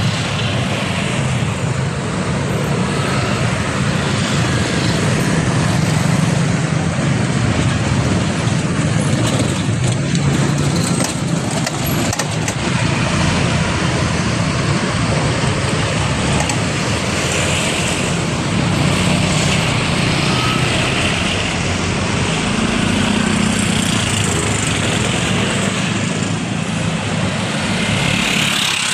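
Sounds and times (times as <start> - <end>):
road and tyre noise: 0.0 - 28.9
truck diesel engine drone: 0.0 - 28.9.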